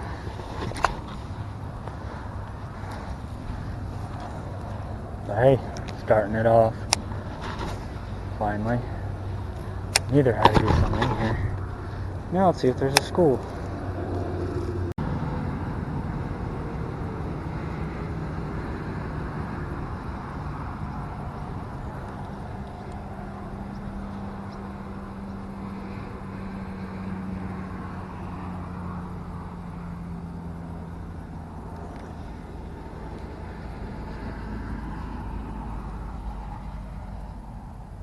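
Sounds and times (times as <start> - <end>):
engine drone: 0.0 - 38.0
traffic rumble: 0.0 - 38.0.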